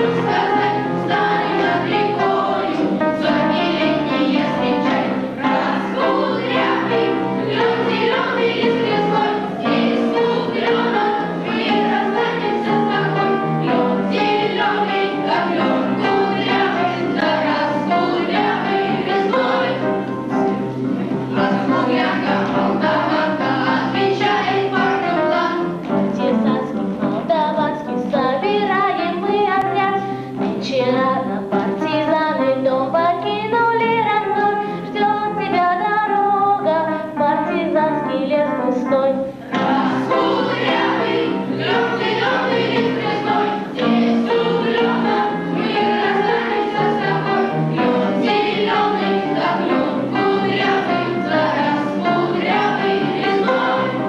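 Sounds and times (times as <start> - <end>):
children singing into microphone: 0.0 - 38.1, 38.7 - 54.0
musical accompaniment: 0.0 - 54.0.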